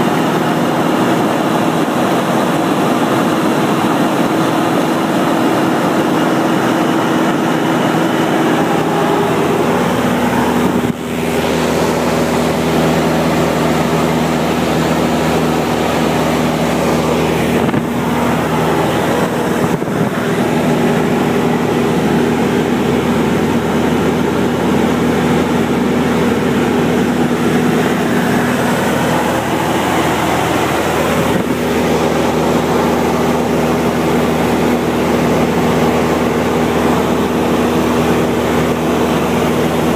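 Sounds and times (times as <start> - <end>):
airplane engine droning: 0.0 - 39.9
steady hum tones: 0.0 - 39.9.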